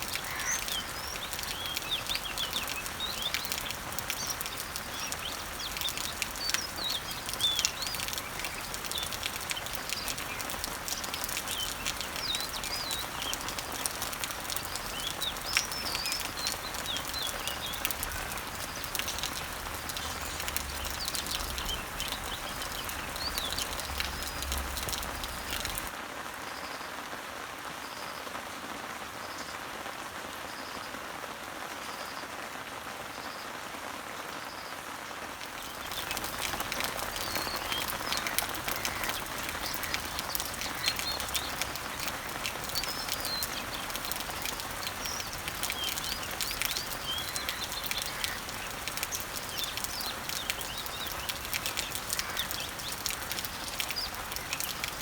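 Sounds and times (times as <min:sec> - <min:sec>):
small birds chirping: 0:00.0 - 0:26.0, 0:35.4 - 0:55.0
rain falling on leaves: 0:00.0 - 0:55.0.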